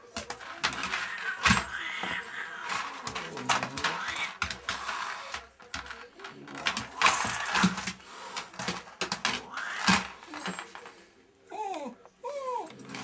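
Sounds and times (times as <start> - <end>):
claws clicking on hard floor: 0.0 - 11.0.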